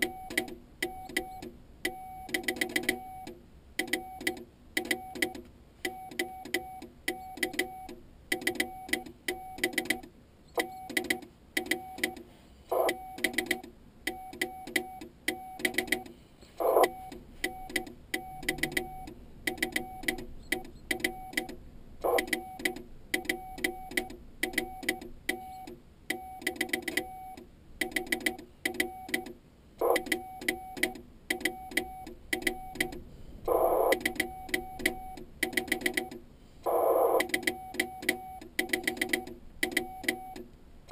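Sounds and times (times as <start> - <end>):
sharp keying clicks: 0.0 - 36.2, 37.1 - 40.6
morse code tone keyed on and off: 0.0 - 40.9.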